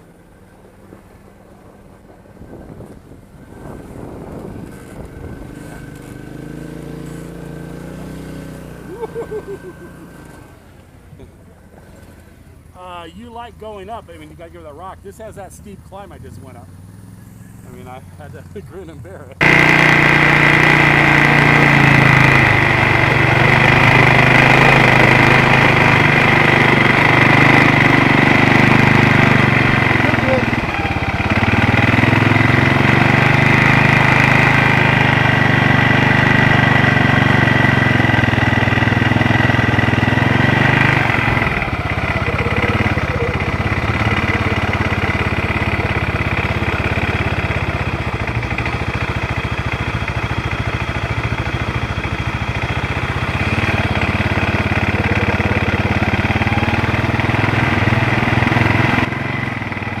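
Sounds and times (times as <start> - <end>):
quad bike engine running: 0.0 - 60.0.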